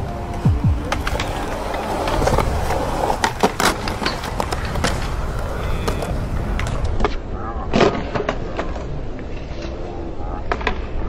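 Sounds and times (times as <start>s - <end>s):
skateboard clacking on ground: 0.0s - 11.0s
skateboard wheels rolling on concrete: 0.0s - 11.0s.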